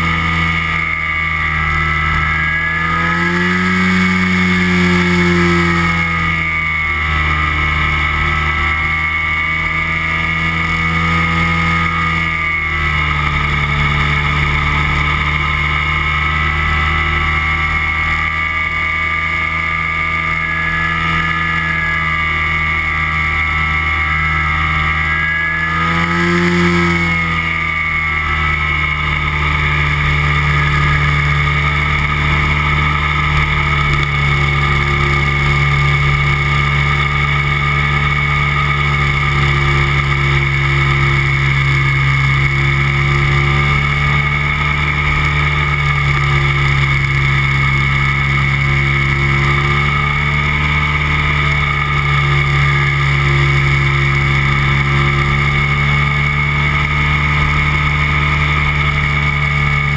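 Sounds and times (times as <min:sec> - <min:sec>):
microlight engine and propeller droning: 0:00.0 - 0:59.9.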